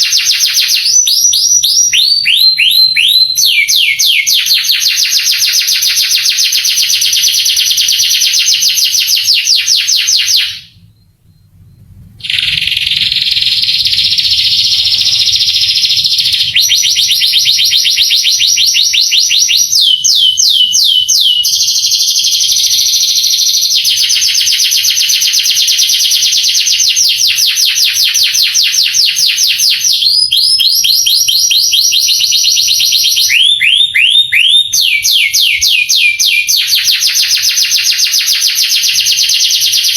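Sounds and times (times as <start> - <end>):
canary singing rapid trills: 0.0 - 10.9, 12.2 - 39.9.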